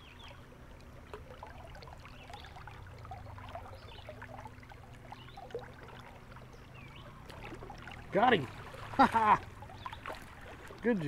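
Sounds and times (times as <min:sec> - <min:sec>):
river babbling: 0:00.0 - 0:11.0.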